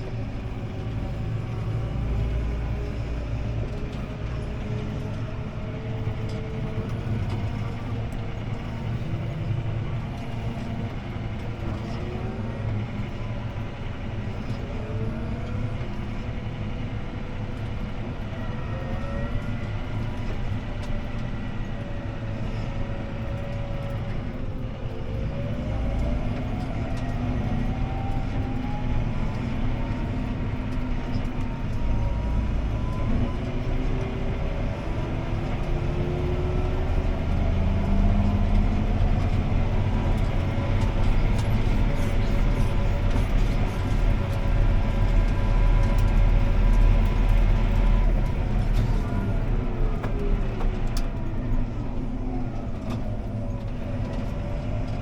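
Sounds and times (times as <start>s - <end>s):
drivetrain whine: 0.0s - 55.0s
tractor diesel engine rumble: 0.0s - 55.0s.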